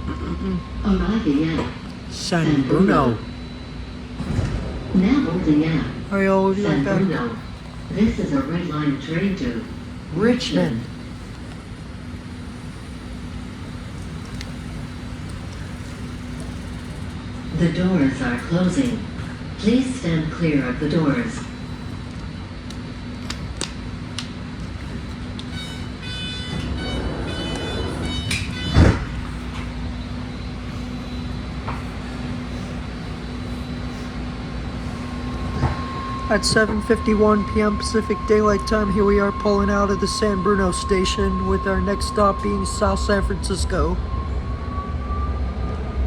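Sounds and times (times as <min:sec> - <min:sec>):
train hum and air noise: 0:00.0 - 0:46.0.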